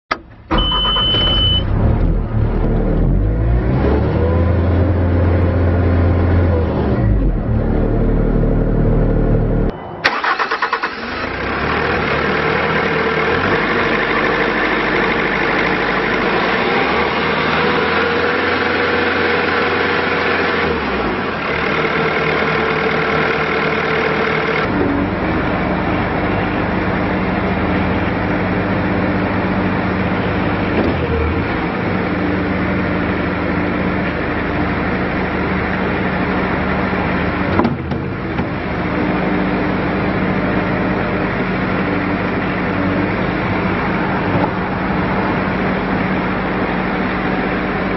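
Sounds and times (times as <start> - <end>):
diesel engine starting and running: 0.1 - 47.9.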